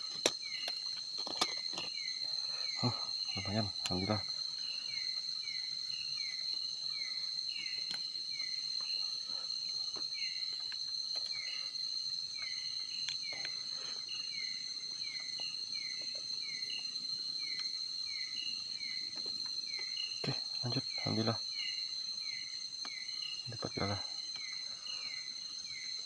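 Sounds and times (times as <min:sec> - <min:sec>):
insect falling chirp: 0:00.0 - 0:09.0, 0:09.8 - 0:24.6
insect high-pitched trill: 0:00.0 - 0:26.0.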